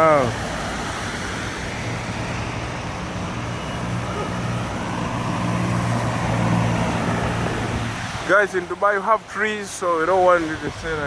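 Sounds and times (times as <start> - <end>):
low engine hum: 0.0 - 9.4
traffic on wet road: 0.0 - 11.0.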